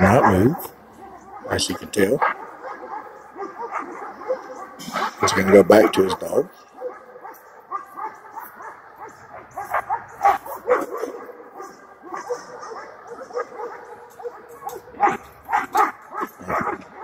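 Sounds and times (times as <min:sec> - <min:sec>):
dog barking and whining: 0:00.0 - 0:17.0.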